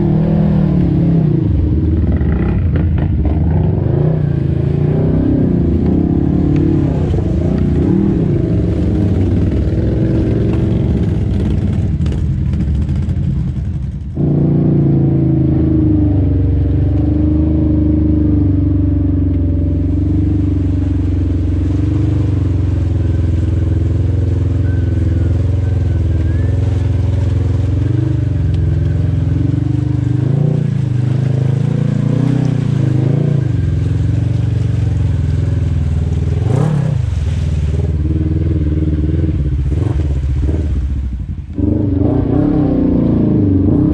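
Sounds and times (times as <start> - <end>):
utility vehicle engines running hard: 0.0 - 43.9.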